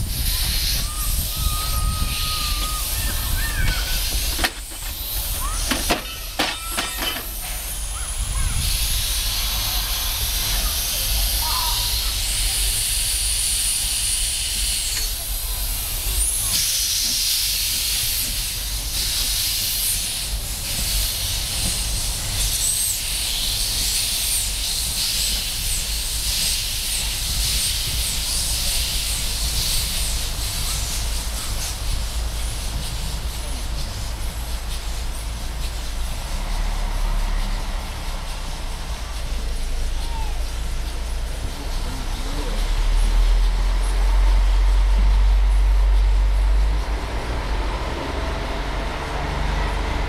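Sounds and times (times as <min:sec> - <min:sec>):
steam locomotive hissing steam: 0:00.0 - 0:50.0.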